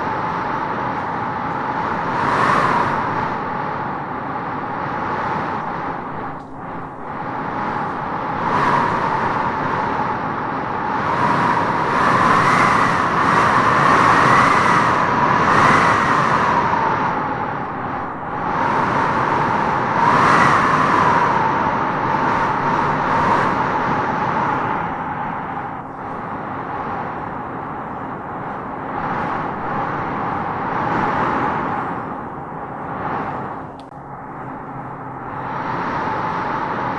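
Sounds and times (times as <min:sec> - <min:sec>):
wind blowing in gusts: 0:00.0 - 0:36.9.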